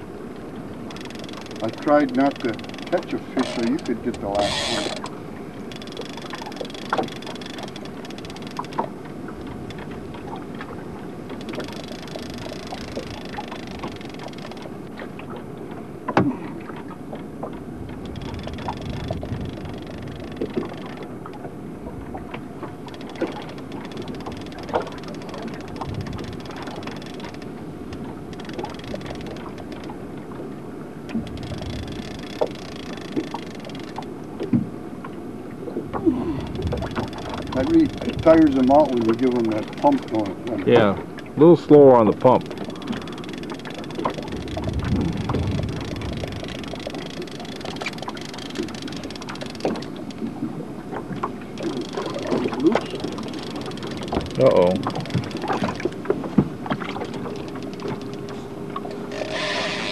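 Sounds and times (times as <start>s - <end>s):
boat engine rumble and hiss: 0.0s - 59.9s.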